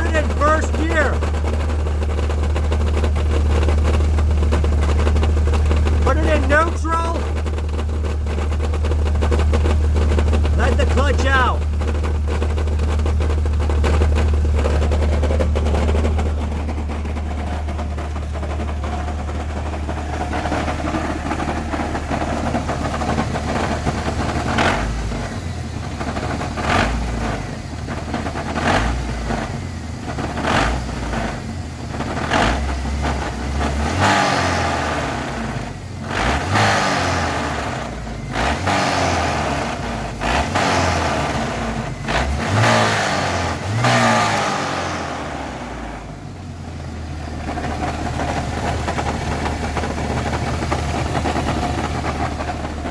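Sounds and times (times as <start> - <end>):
car engine running with knocking: 0.0 - 52.9.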